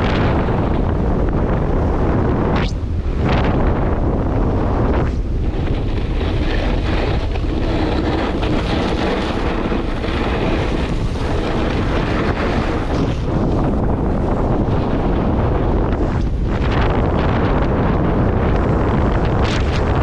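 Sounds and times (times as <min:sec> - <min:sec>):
wind buffeting microphone: 0:00.0 - 0:20.0
skis carving on snow: 0:00.1 - 0:20.0.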